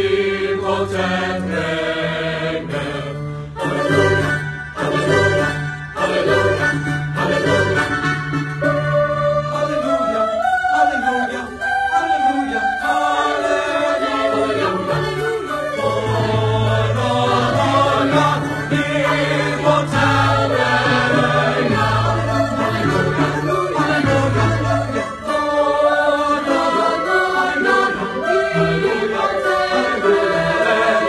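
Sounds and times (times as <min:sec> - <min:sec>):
mixed choir singing: 0:00.0 - 0:31.0
recorded accompaniment with bass notes: 0:00.0 - 0:31.0.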